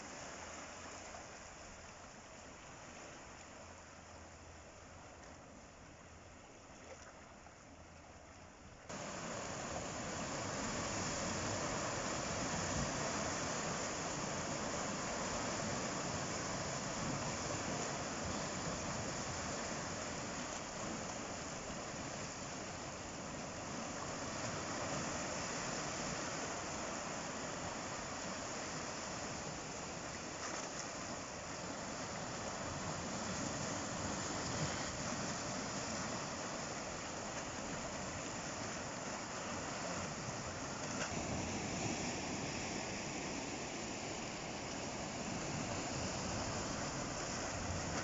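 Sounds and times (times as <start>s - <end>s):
sea surf washing on shore: 0.0s - 4.0s, 8.9s - 48.0s.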